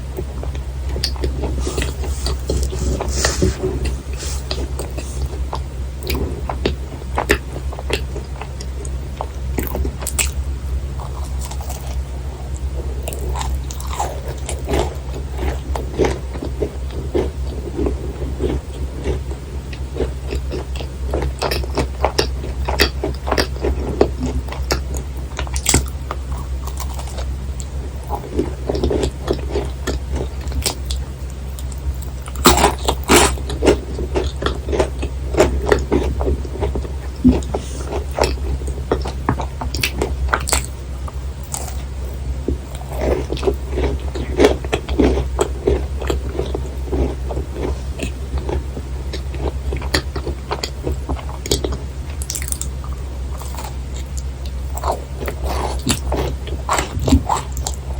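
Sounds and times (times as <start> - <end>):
chewing and biting macarons: 0.0 - 57.9
steady low hum: 0.0 - 57.9.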